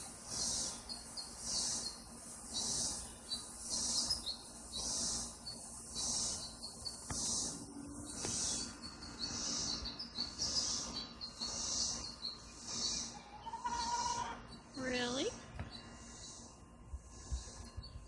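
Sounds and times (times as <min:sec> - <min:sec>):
insect buzzing pulse: 0:00.0 - 0:18.0.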